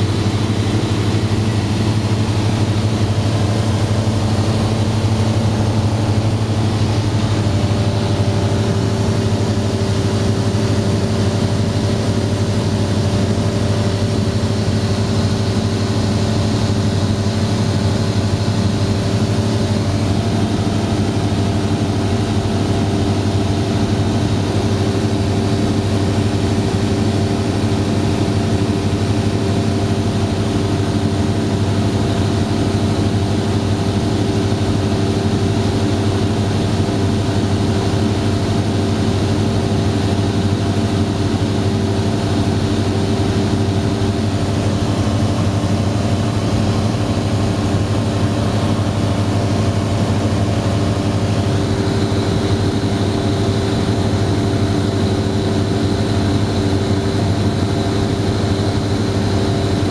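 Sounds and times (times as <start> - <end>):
aircraft engine drone in cockpit: 0.0 - 59.9.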